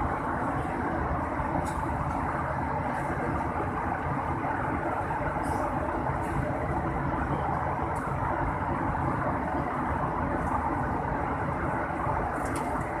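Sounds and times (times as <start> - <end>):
jet engine drone: 0.0 - 13.0.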